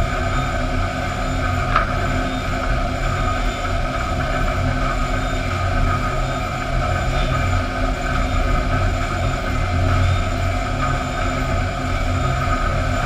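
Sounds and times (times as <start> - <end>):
constant higher hum: 0.0 - 13.0
sawmill machinery low rumble: 0.0 - 13.0.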